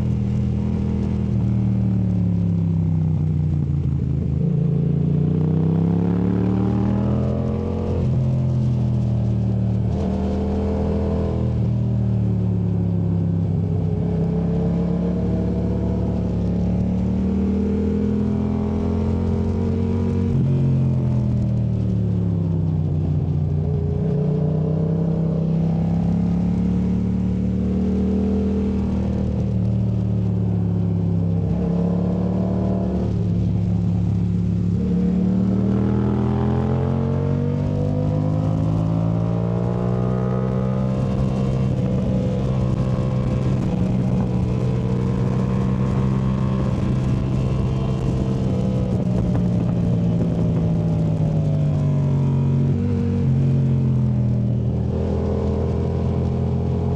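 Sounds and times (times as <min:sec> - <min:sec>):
motorcycle engine revving: 0:00.0 - 0:12.2, 0:23.2 - 0:56.9.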